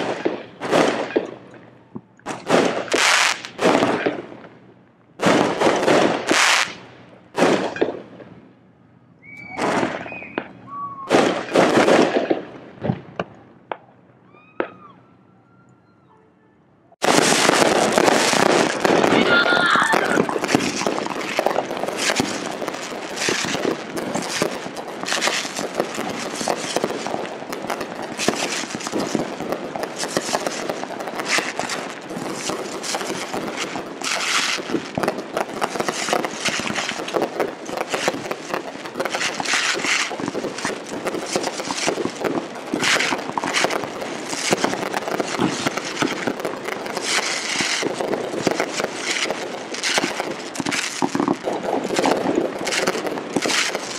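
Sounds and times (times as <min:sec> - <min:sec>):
fireworks bangs and pops: 0:00.0 - 0:08.5, 0:09.2 - 0:14.0, 0:17.0 - 0:53.9
fireworks crackling: 0:00.0 - 0:14.0, 0:16.9 - 0:53.9.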